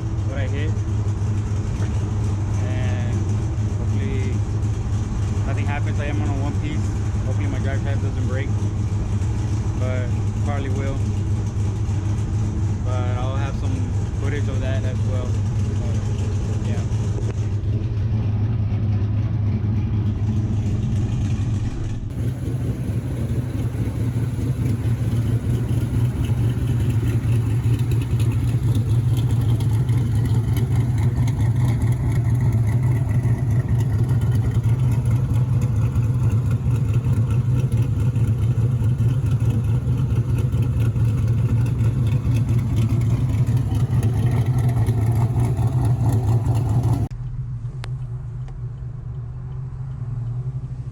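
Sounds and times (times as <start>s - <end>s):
pickup truck engine and exhaust: 0.0s - 50.9s.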